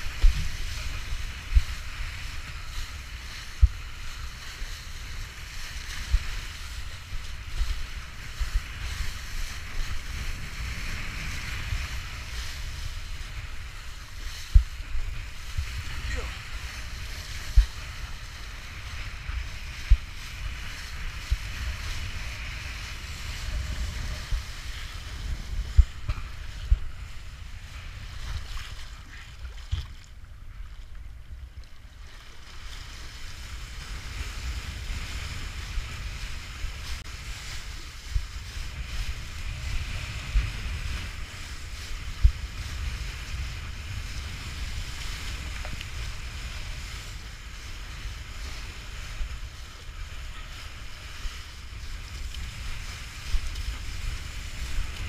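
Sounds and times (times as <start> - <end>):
hiss of spray and water: 0.0 - 29.2, 32.8 - 55.0
wind buffeting microphone: 0.0 - 55.0.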